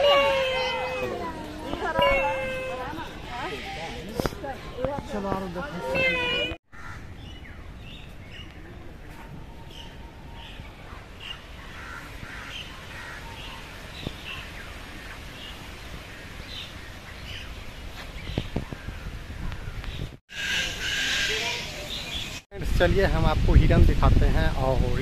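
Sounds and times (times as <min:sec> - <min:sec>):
birds calling: 0:00.0 - 0:22.4
outdoor background noise: 0:00.0 - 0:25.0.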